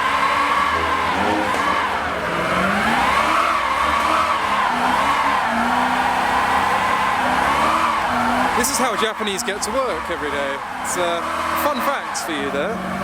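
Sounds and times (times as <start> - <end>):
car engine at high revs: 0.0 - 13.0
tyres squealing: 0.0 - 13.0.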